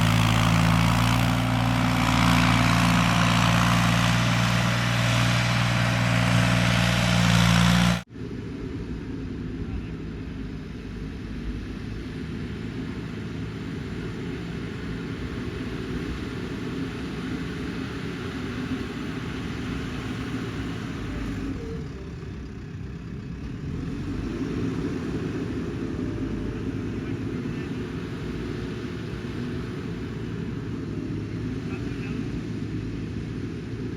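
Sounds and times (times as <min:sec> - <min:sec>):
heavy machine diesel engine running: 0:00.0 - 0:33.9.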